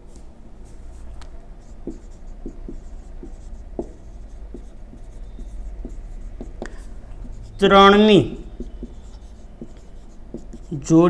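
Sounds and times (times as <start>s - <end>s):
steady low hum: 0.0s - 11.0s
marker squeaking on whiteboard: 1.6s - 11.0s.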